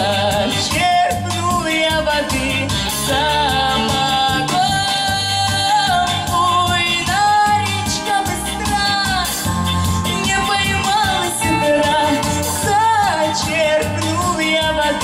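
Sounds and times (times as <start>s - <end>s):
repeating bass beat: 0.0s - 15.0s.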